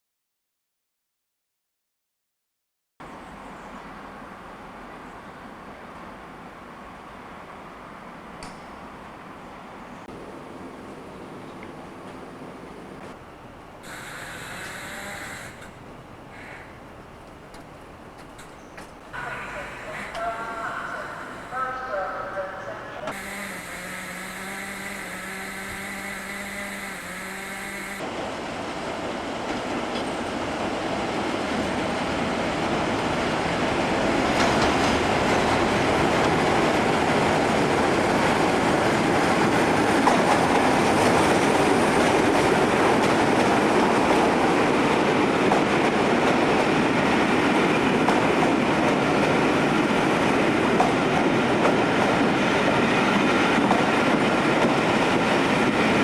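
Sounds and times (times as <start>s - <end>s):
train running on rails: 3.0s - 56.0s.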